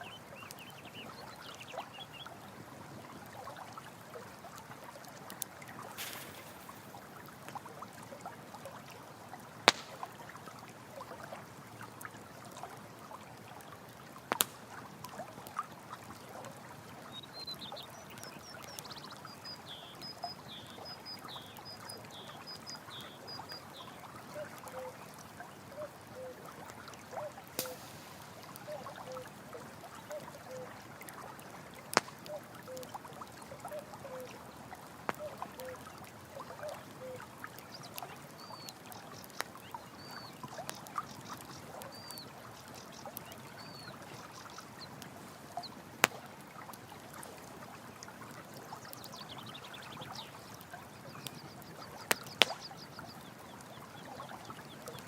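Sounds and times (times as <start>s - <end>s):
stream water running: 0.0s - 55.0s
campfire crackling and popping: 4.5s - 8.8s, 9.4s - 16.2s, 17.8s - 55.0s.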